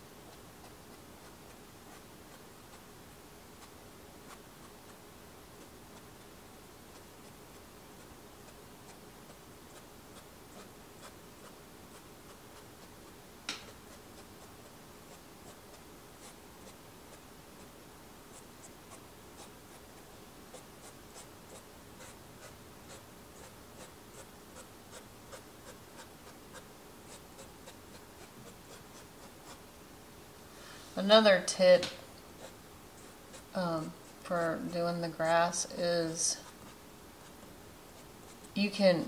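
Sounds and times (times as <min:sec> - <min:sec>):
pastel scratching on paper: 0:00.1 - 0:06.3, 0:06.9 - 0:29.7, 0:32.3 - 0:39.0.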